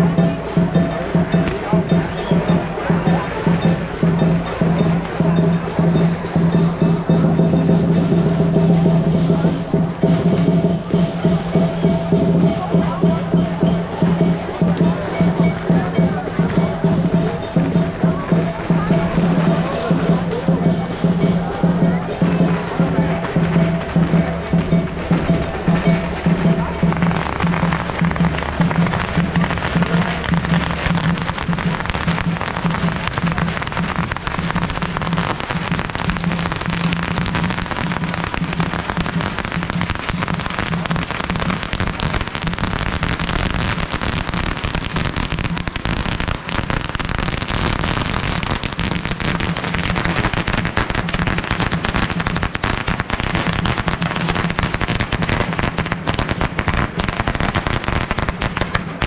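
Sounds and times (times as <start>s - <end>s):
firecrackers crackling: 0.0s - 59.0s
low drumbeat: 0.0s - 59.0s.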